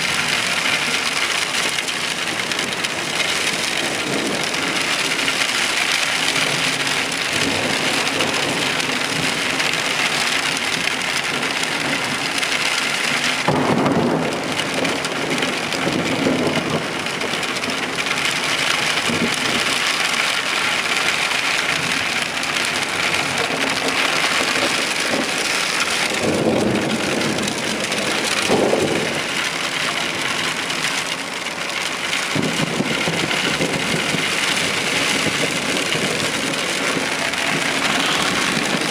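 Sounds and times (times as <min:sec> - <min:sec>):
low thunder rumbles: 0:00.0 - 0:38.9
rain falling steadily: 0:00.0 - 0:38.9.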